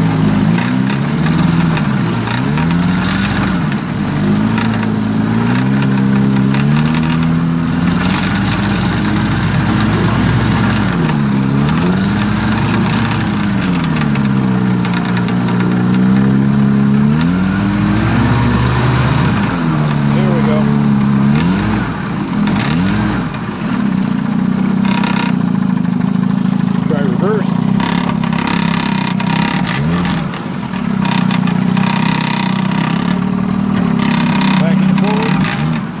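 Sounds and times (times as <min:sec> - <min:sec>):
outboard engine running: 0:00.0 - 0:36.0.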